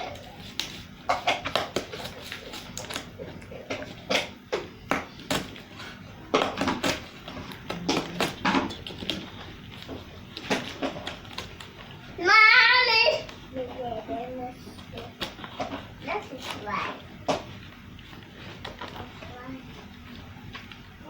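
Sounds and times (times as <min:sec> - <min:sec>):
paper and cardboard handling: 0:00.0 - 0:21.0.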